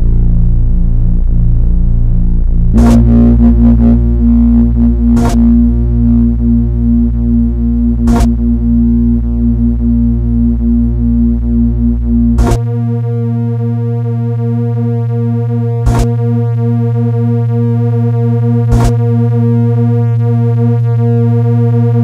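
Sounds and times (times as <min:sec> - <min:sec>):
low electronic buzz: 0:00.0 - 0:22.0.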